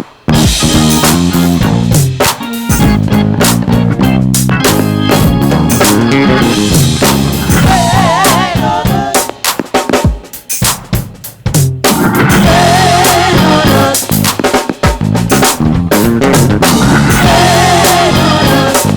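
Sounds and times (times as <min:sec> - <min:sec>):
drum kit hits: 0:00.0 - 0:18.9
bass notes: 0:00.3 - 0:09.1, 0:11.5 - 0:14.4, 0:15.0 - 0:18.9.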